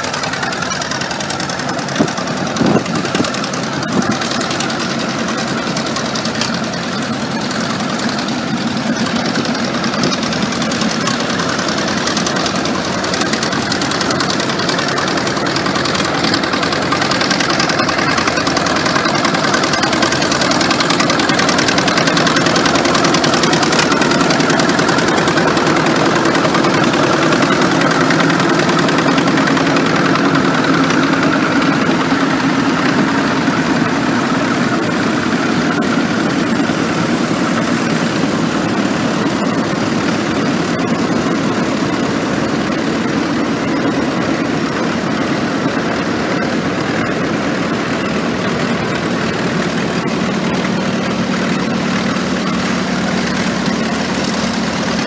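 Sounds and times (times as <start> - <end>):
crawler tractor engines idling: 0.0 - 55.0.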